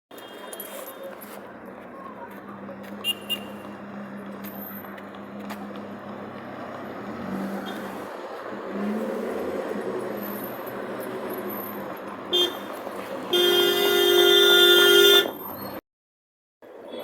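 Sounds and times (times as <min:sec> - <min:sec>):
street noise: 0:00.1 - 0:15.8, 0:16.6 - 0:17.0.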